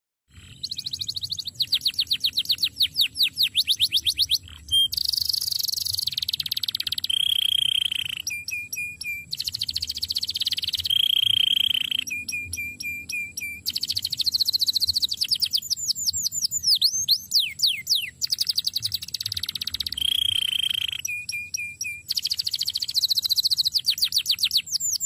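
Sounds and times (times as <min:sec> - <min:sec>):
canary singing: 0:00.3 - 0:25.0.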